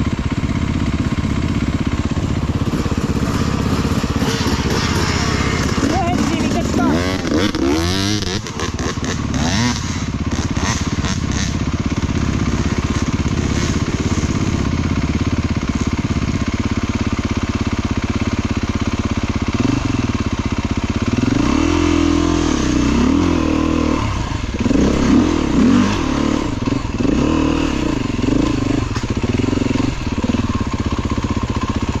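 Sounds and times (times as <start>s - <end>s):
dirt bike engine revving: 0.0s - 18.3s, 19.4s - 32.0s.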